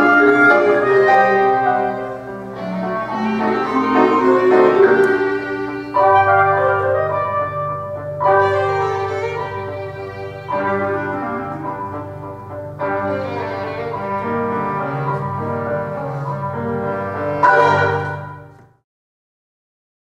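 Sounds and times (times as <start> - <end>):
chamber ensemble playing: 0.0 - 18.6.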